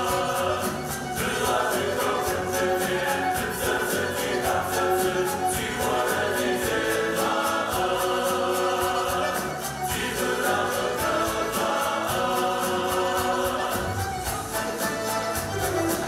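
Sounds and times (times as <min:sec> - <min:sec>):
instrumental accompaniment with beat: 0:00.0 - 0:16.0
mixed choir singing: 0:00.0 - 0:16.0.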